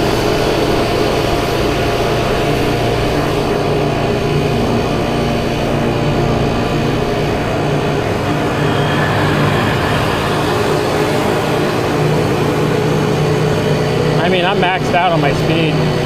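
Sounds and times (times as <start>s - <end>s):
scooter engine at full throttle: 0.0s - 16.0s.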